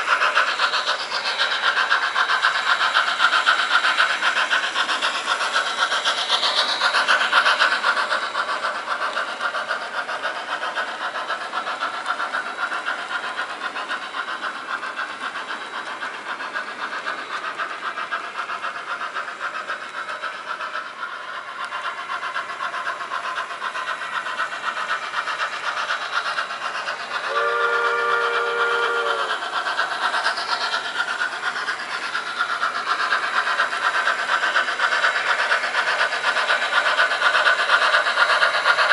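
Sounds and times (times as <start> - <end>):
model steam locomotive chuffing: 0.0 - 38.9.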